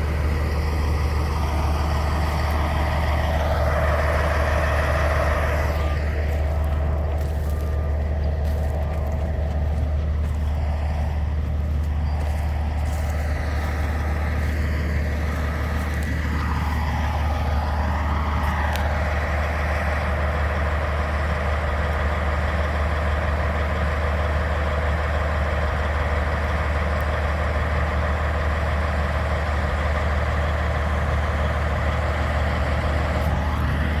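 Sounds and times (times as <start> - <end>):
diesel engine deep hum: 0.0 - 34.0.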